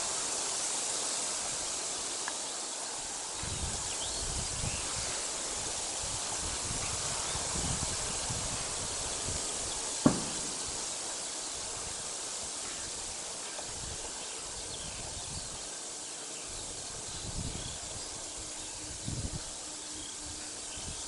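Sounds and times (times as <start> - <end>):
steady high hiss: 0.0 - 21.0
wind gusting on microphone: 3.2 - 15.7, 16.5 - 21.0.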